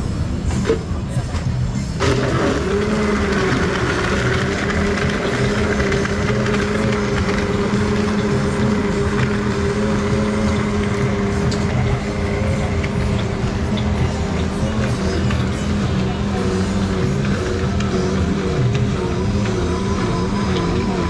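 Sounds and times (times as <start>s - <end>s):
busy background noise: 0.0s - 21.0s.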